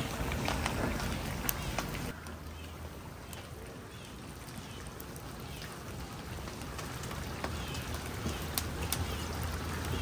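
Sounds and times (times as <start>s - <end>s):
food sizzling over a fire: 0.0s - 10.0s.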